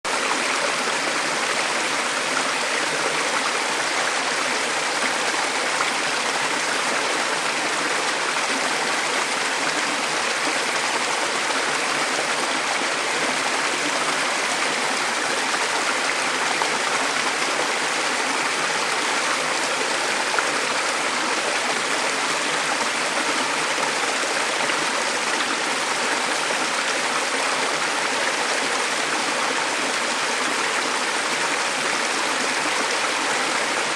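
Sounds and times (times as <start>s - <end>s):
stream babbling over rocks: 0.1s - 33.9s.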